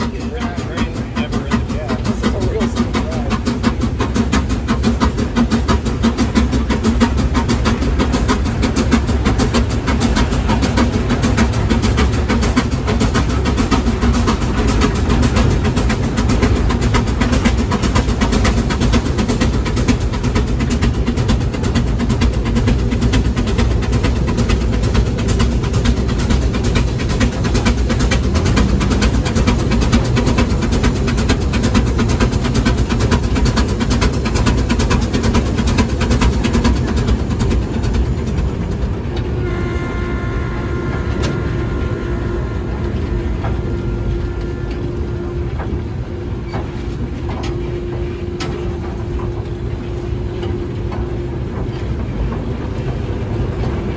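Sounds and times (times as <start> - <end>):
steady tones: 0.0 - 53.9
steam engine mechanical clatter: 0.0 - 53.9.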